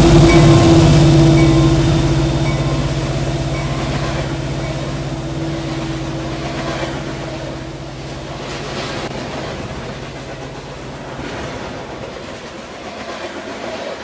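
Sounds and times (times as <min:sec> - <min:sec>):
locomotive engine droning: 0:00.0 - 0:12.9.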